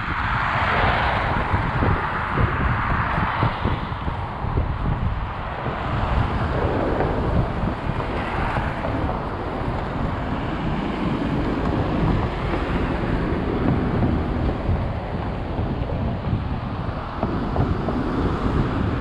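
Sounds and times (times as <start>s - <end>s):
road traffic rushing: 0.0s - 19.0s
wind buffeting microphone: 0.0s - 19.0s.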